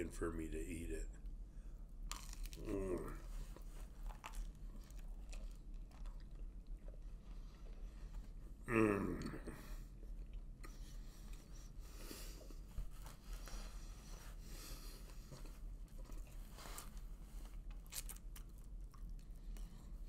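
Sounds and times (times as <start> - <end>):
man chewing crunchy crust: 2.0 - 14.2, 14.8 - 20.0.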